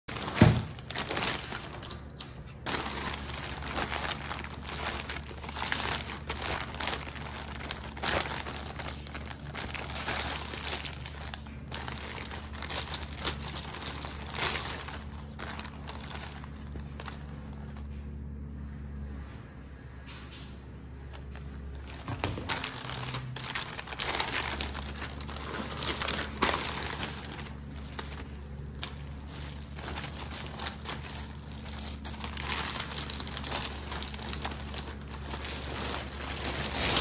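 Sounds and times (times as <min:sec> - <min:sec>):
plastic packaging crinkling: 0:00.1 - 0:18.1, 0:21.1 - 0:37.0
steady low hum: 0:00.1 - 0:37.0.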